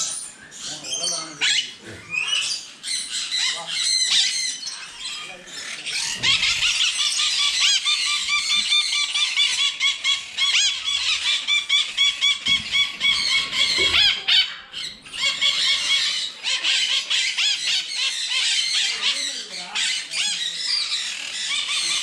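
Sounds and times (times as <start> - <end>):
parrots screeching: 0.0 - 22.0.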